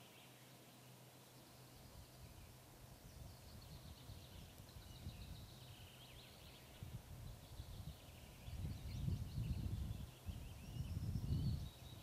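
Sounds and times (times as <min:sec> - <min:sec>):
songbird twittering: 0:00.0 - 0:12.0.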